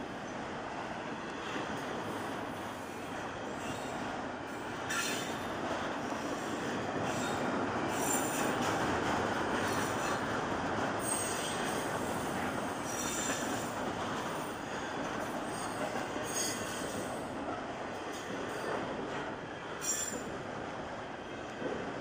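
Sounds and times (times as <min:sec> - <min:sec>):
train wheels rolling on rails: 0:00.0 - 0:22.0.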